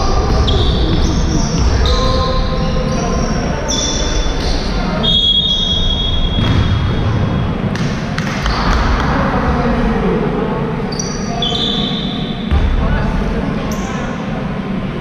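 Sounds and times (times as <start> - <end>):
players' voices: 0.0 - 15.0.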